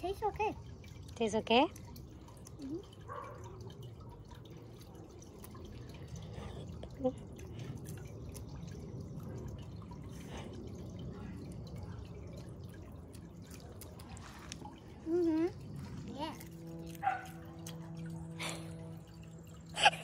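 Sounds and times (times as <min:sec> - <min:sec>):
fountain water trickling: 0:00.0 - 0:20.0.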